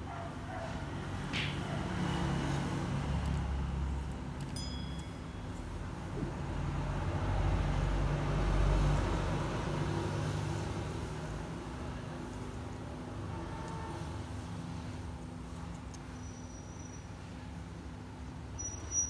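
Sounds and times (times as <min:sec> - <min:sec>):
low rumble of road traffic: 0:00.0 - 0:19.0.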